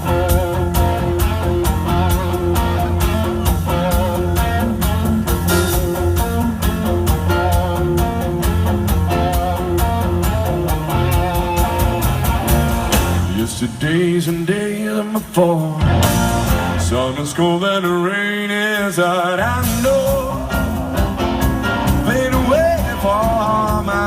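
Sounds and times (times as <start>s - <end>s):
electric guitar playing: 0.0s - 14.7s, 15.7s - 17.8s, 19.4s - 24.0s
steady drum beat: 0.0s - 18.0s, 18.8s - 24.0s.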